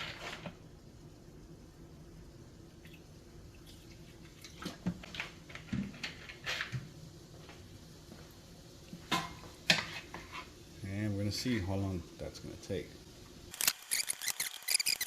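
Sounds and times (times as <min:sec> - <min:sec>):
water simmering in a pan: 0:00.0 - 0:13.6.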